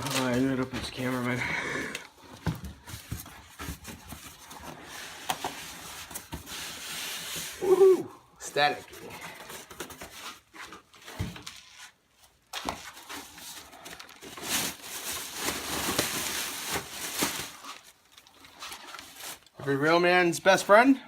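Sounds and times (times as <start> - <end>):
packing material and cardboard rustling: 0.0 - 20.1.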